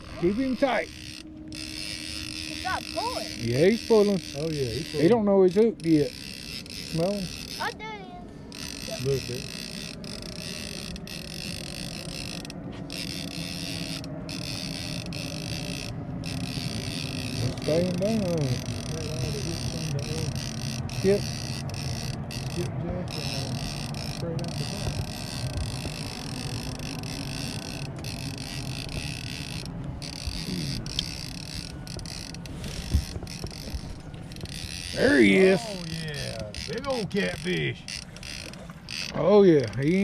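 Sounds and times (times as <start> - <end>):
fishing reel creaking and clicking: 0.0 - 40.0.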